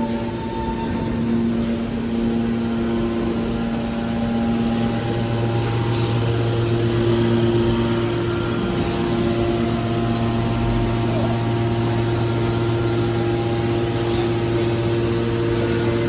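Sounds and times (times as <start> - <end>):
baler machine drone: 0.0 - 16.0.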